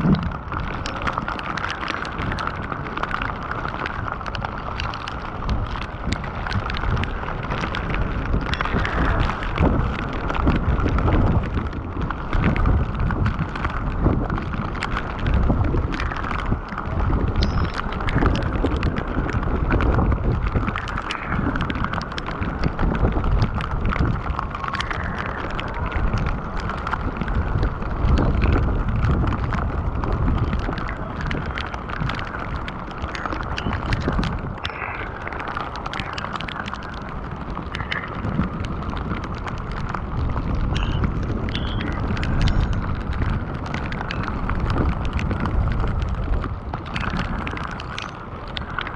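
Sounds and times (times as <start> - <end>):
heavy rain falling: 0.0 - 48.9
wind buffeting microphone: 0.0 - 48.9.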